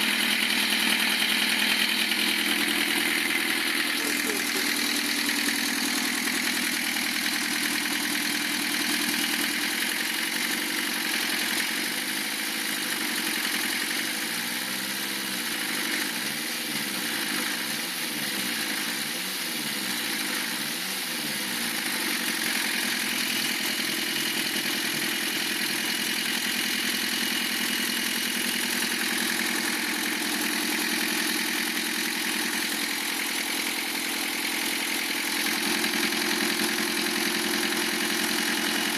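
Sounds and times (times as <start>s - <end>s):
diesel engine idling: 0.0s - 38.9s
engine knocking: 0.0s - 38.9s.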